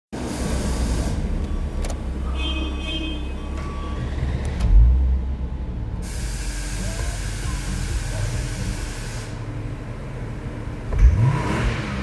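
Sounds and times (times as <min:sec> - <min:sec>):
car engine low rumble: 0:00.2 - 0:12.0.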